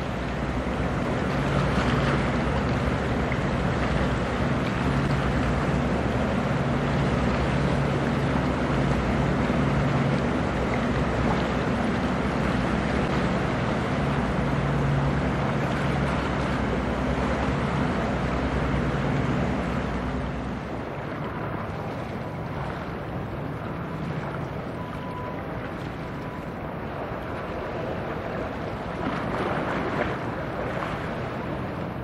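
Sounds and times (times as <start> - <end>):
ship engine low hum: 0.0 - 32.0
water noise: 0.0 - 32.0
wind: 0.0 - 32.0.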